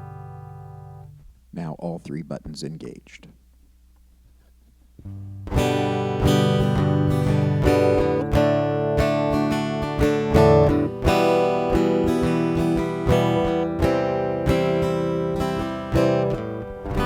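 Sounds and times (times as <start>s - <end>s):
acoustic guitar strumming chords: 0.0s - 3.1s, 5.0s - 17.0s.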